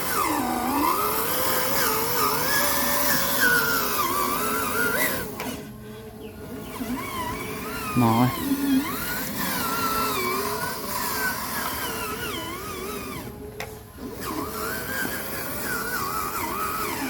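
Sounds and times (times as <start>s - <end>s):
toy truck motor whining: 0.0s - 17.0s.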